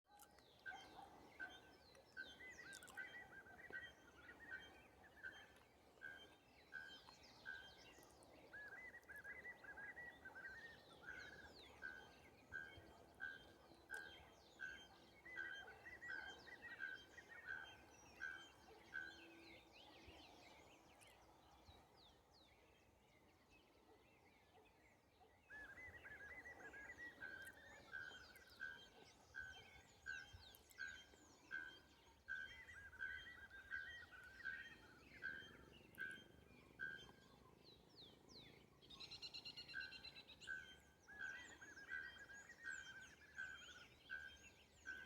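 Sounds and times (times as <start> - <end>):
small birds chirping: 0.1 - 22.3, 25.6 - 45.0.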